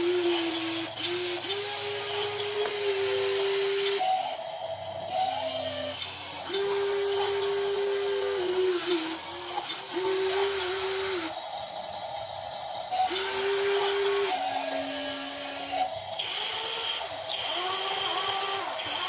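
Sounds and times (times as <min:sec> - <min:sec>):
small electric motors whining: 0:00.0 - 0:19.0
steady hiss: 0:00.0 - 0:19.0.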